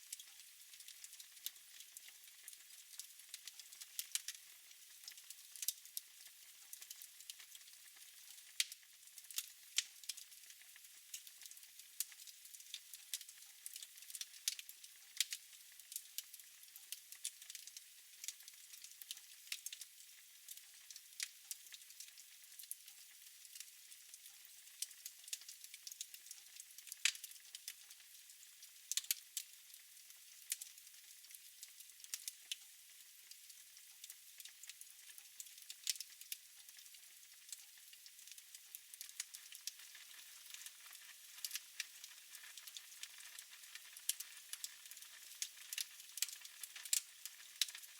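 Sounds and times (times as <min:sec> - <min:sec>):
fire crackling in fireplace: 0:00.0 - 0:47.9.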